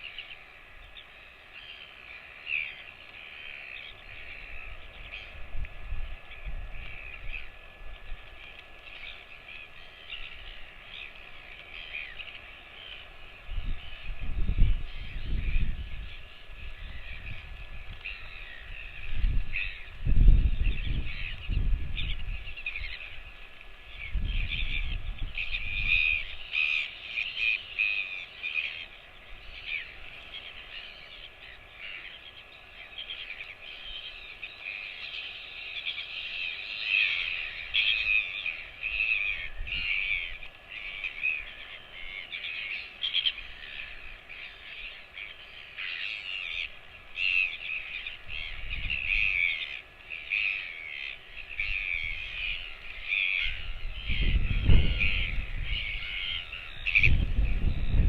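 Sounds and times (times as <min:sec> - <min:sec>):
birds calling: 0:00.0 - 0:58.0.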